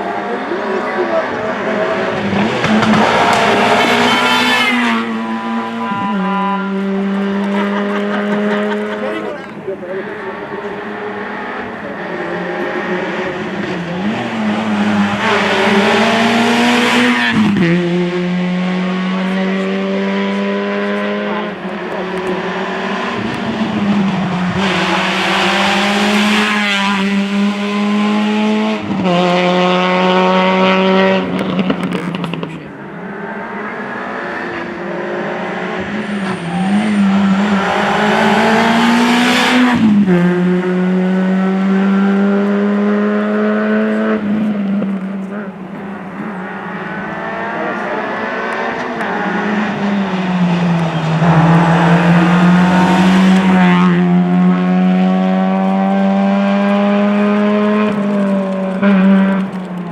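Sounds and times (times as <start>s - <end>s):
rally car engine revving: 0.0s - 59.9s
gear changes: 10.0s - 59.9s.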